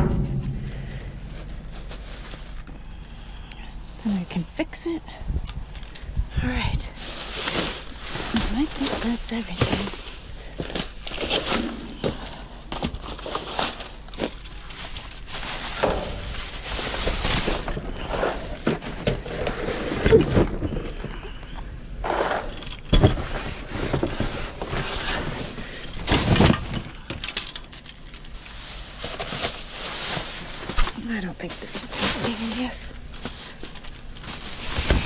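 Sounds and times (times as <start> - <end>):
plastic bags rustling: 0.6 - 5.0, 5.6 - 20.8, 22.8 - 35.0.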